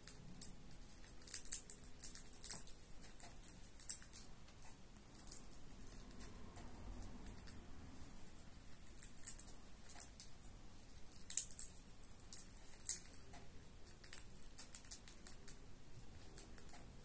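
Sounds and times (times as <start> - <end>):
parrot cracking seed shells: 0.0 - 7.6, 8.7 - 17.0.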